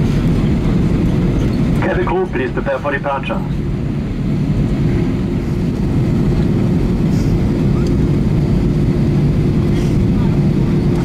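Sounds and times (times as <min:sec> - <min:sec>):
jet engines at takeoff power: 0:00.0 - 0:11.0.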